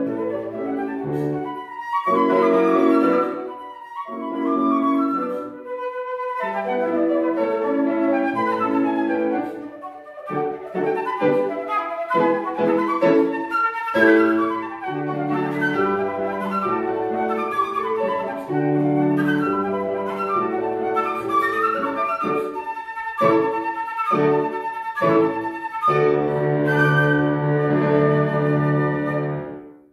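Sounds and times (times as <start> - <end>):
flute playing: 0.0 - 29.9
piano accompaniment: 0.0 - 29.9.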